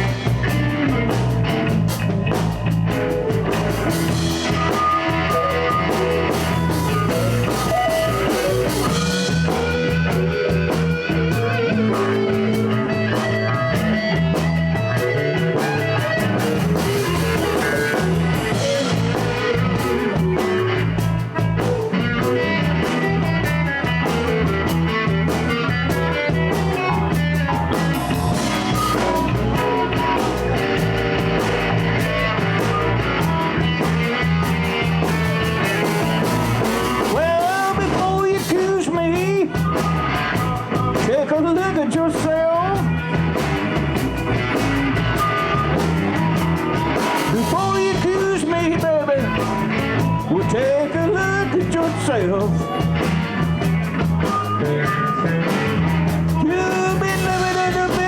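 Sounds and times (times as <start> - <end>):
blues band playing: 0.0 - 58.0.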